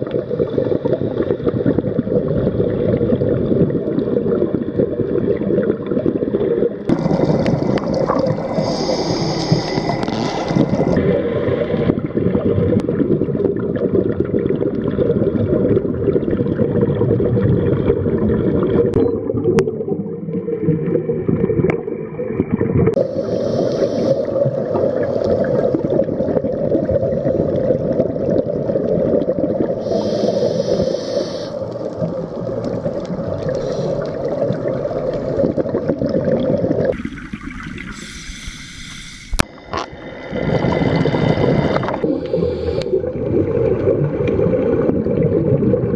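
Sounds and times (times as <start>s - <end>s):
muffled underwater rush: 0.0s - 45.9s
regulator bubbles gurgling: 0.0s - 45.9s.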